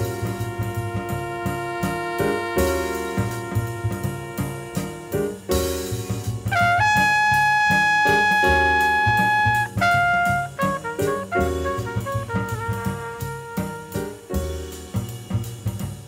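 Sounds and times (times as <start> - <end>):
jazz horn playing: 0.0 - 16.0
walking bass line: 0.0 - 16.0.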